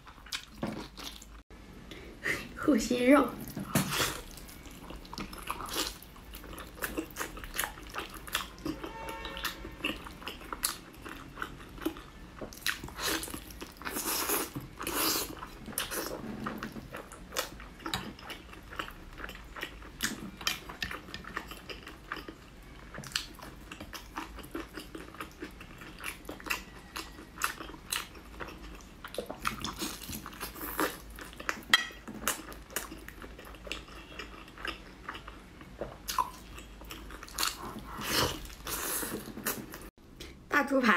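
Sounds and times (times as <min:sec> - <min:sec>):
wet chewing: 0:03.4 - 0:39.9.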